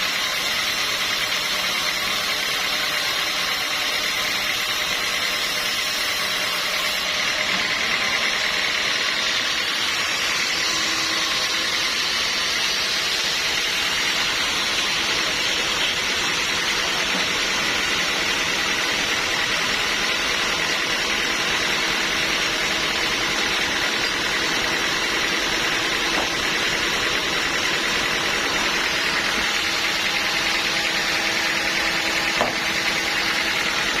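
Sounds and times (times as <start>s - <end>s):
sawmill machinery running: 0.0s - 34.0s.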